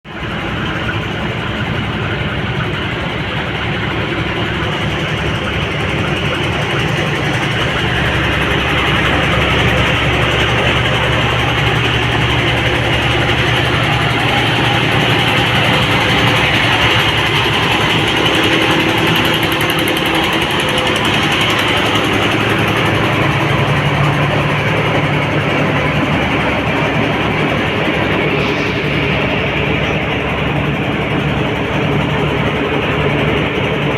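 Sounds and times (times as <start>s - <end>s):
engine running loud: 0.0s - 33.9s.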